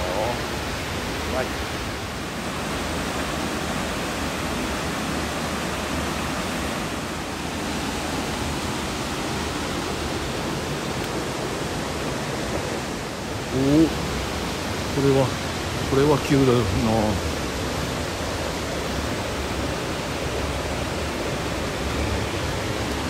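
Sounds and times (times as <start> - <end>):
waterfall pouring over rock: 0.0 - 23.0.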